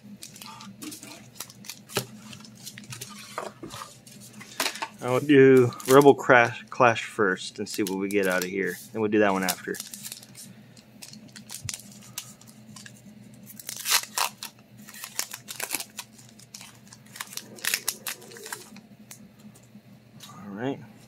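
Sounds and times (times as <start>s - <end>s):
foil wrapper tearing and crinkling: 0.1s - 4.2s, 5.0s - 6.8s, 7.6s - 19.2s.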